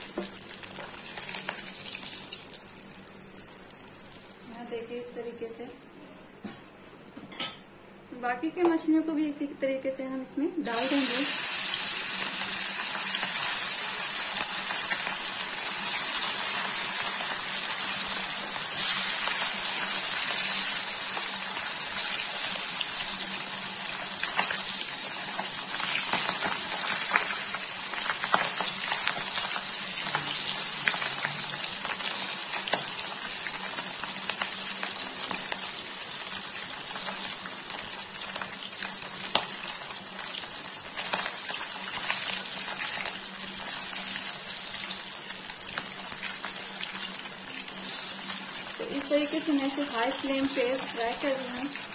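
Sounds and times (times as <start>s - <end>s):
fish sizzling in oil: 0.0s - 4.9s, 10.6s - 51.9s.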